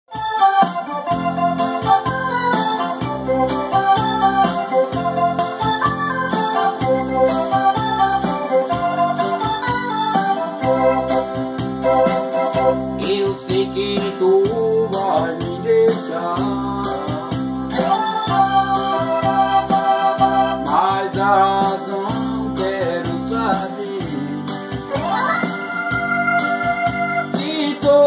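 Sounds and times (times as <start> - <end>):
electronic keyboard melody: 0.1 - 28.0.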